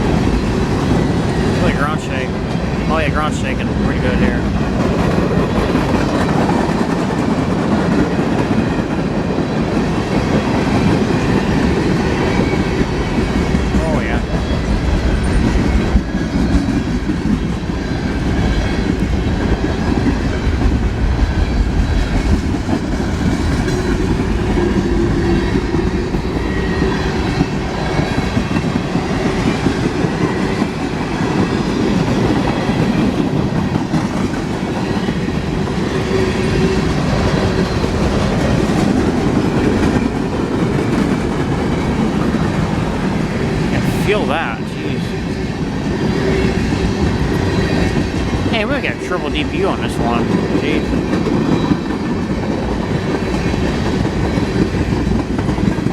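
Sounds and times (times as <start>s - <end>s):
rumble of train cars: 0.0s - 55.9s.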